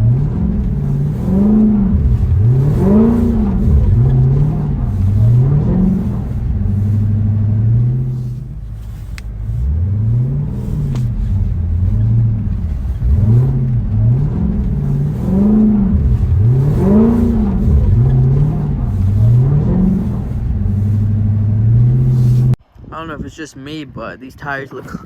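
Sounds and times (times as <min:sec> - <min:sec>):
car engine running and revving: 0:00.0 - 0:22.7.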